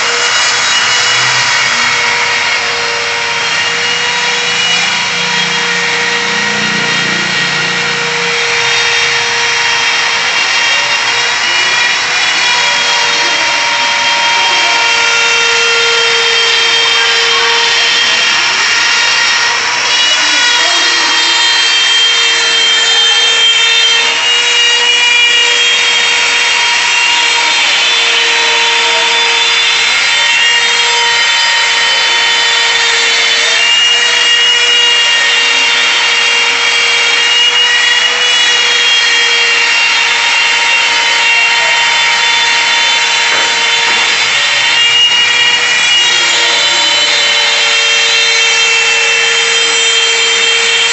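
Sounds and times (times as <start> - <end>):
router bit cutting wood: 0.0 - 50.9.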